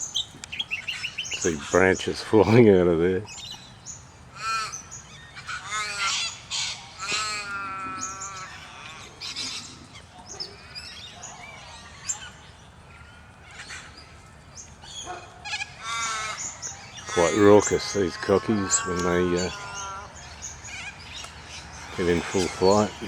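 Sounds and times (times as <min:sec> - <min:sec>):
cockatoos calling raucously: 0:00.0 - 0:23.0.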